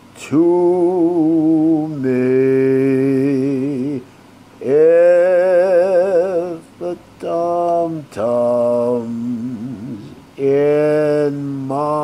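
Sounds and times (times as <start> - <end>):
man singing unaccompanied: 0.2 - 12.0.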